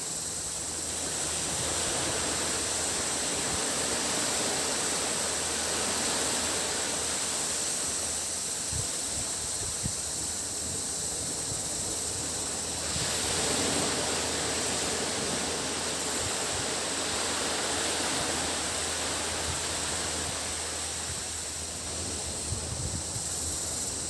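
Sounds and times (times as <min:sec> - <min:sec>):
cicadas droning: 0:00.0 - 0:24.0
sea waves washing onto beach: 0:00.0 - 0:24.0.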